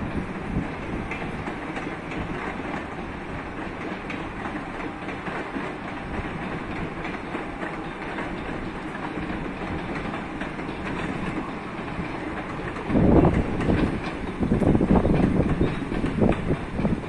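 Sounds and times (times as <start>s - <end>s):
train coaches rumbling: 0.0s - 17.0s
wheels clicking over rail joints: 0.0s - 17.0s.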